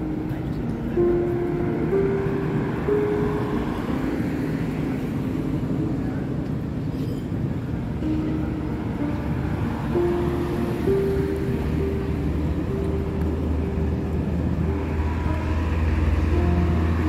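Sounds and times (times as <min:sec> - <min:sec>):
cars driving past: 0:00.0 - 0:17.0
soft background music: 0:00.0 - 0:17.0.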